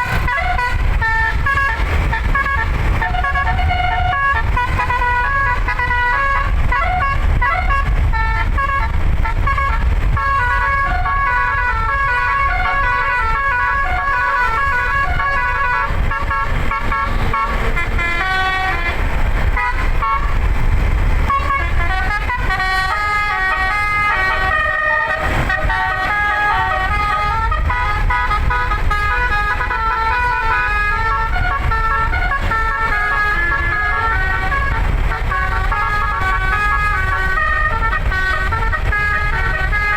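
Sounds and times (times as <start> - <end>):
musical bus air horn melody: 0.0 - 39.9.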